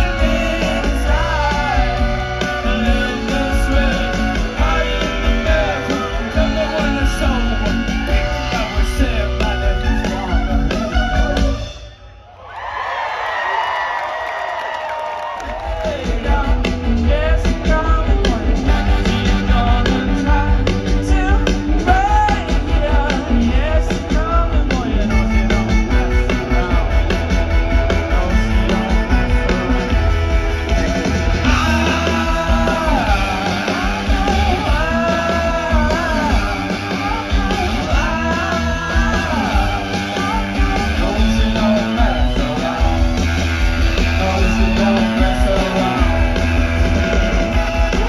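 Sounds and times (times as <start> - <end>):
man singing lead vocal: 0.0 - 11.8, 15.4 - 48.0
rock band playing live: 0.0 - 12.3, 15.2 - 48.0.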